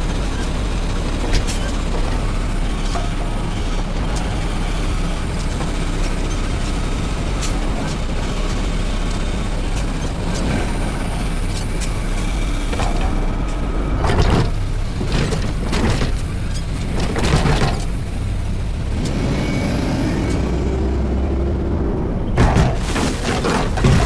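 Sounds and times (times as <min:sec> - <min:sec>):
garbage truck engine rumbling: 0:00.0 - 0:24.0.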